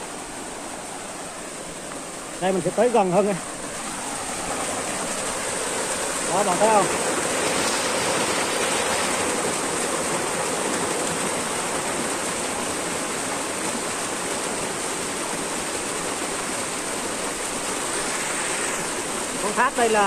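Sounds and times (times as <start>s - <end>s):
waterfall splashing: 0.0s - 20.0s.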